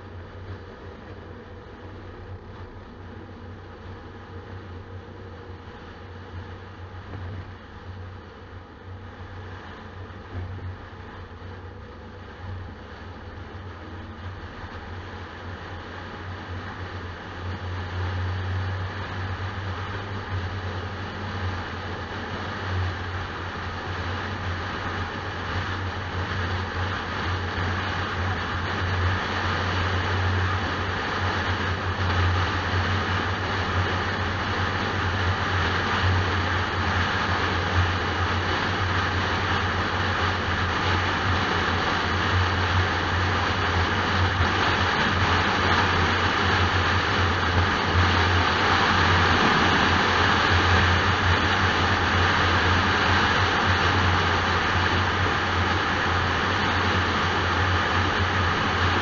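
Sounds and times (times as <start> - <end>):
car engine hum: 0.0 - 59.0
road roar: 0.0 - 59.0.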